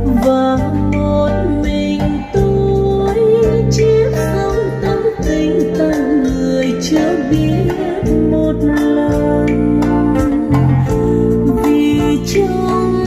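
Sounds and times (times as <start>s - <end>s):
full bass notes: 0.0s - 13.0s
guitar: 0.0s - 13.0s
person singing wavering melody: 0.0s - 13.0s.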